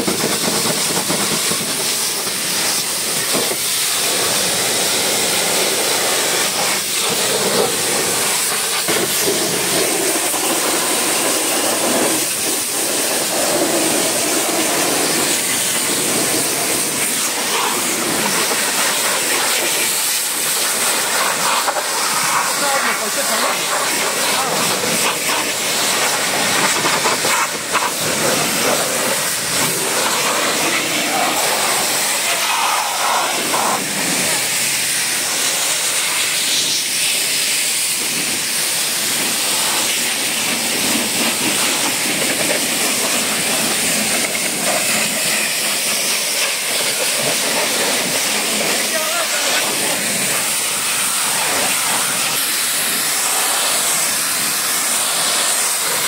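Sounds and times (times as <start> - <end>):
pressure washer spraying car: 0.0 - 56.0.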